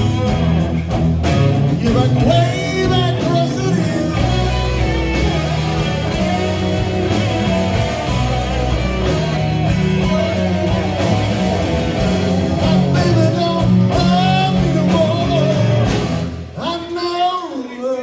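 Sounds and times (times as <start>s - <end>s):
electric guitar: 0.0s - 17.0s
blues-rock band playing: 0.0s - 18.0s.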